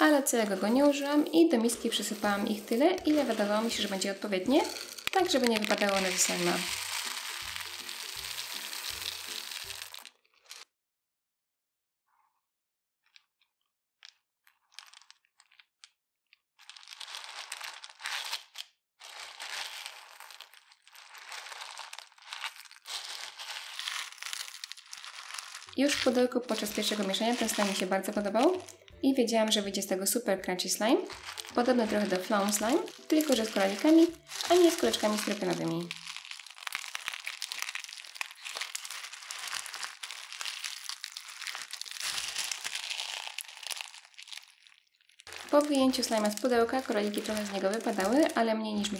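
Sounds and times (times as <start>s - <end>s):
slime crunching plastic beads: 0.0s - 10.7s, 16.6s - 48.9s.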